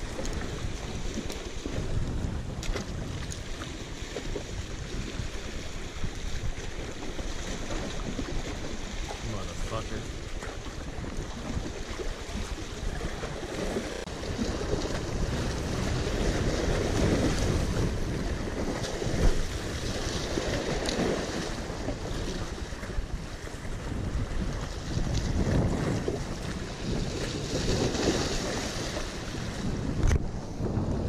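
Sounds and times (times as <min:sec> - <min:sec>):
small waves washing against rocks: 0:00.0 - 0:31.0
wind buffeting microphone: 0:00.0 - 0:31.0.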